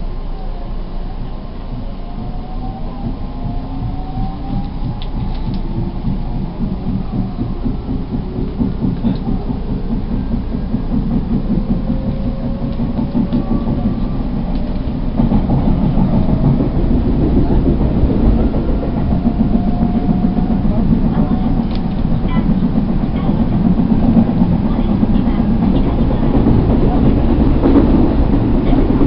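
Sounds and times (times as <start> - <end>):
air conditioning: 0.0 - 29.0
flat wheel pounding: 0.0 - 29.0
traction motor whine: 0.0 - 29.0
wheels rumbling on rails: 0.0 - 29.0.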